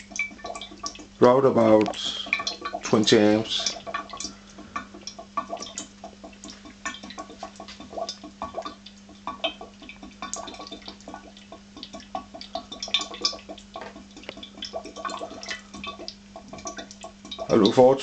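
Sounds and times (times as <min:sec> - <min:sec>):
small bubbles popping in water: 0:00.0 - 0:18.0
steady low hum: 0:00.0 - 0:18.0.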